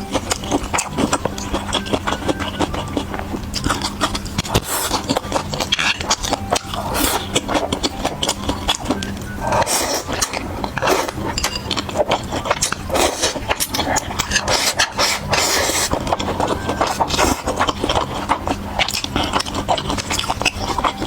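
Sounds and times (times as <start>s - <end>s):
chewing and mouth noises: 0.0s - 21.0s
steady low hum: 0.0s - 21.0s.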